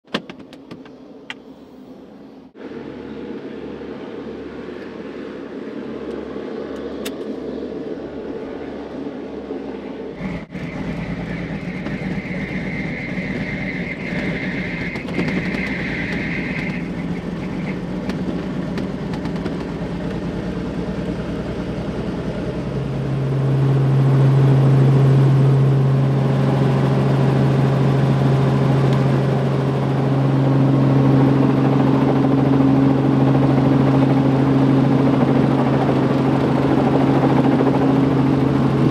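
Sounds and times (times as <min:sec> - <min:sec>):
helicopter engine and rotor hum: 0:00.1 - 0:38.9.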